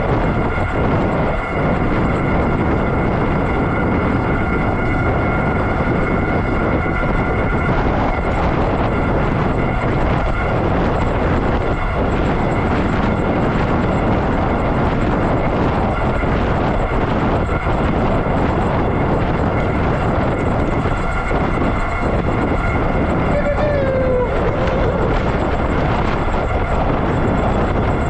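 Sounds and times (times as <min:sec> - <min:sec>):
steady high whine: 0:00.0 - 0:28.0
wind rushing over microphone: 0:00.0 - 0:28.0.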